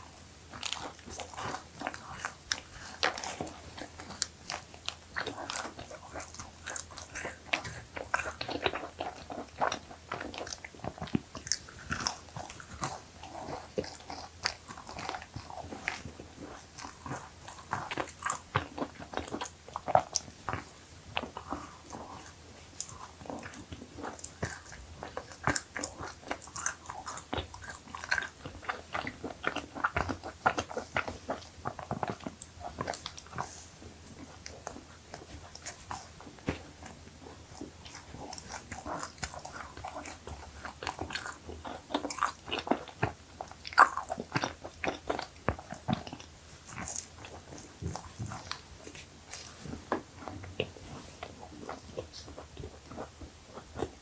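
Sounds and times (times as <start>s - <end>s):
crunchy cookie chewing: 0.0s - 54.0s.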